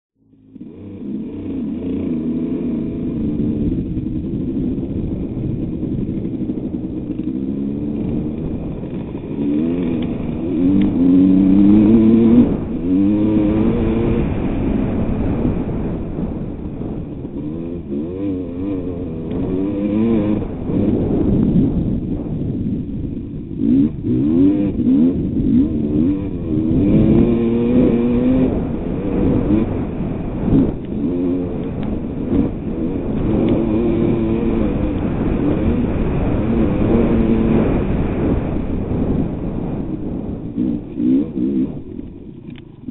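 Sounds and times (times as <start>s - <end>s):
motocross bike engine revving: 0.2s - 42.9s.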